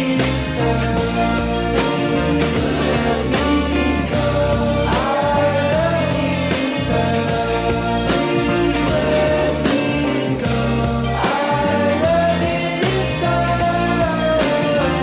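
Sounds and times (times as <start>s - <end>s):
song with guitar and singing: 0.0s - 15.0s.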